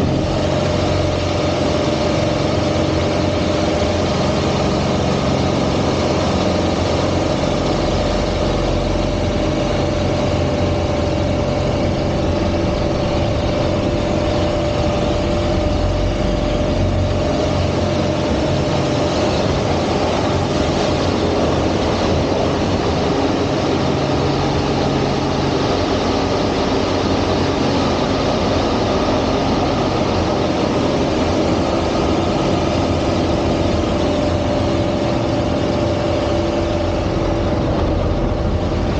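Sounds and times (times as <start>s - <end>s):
plane engine and propeller drone: 0.0s - 38.9s.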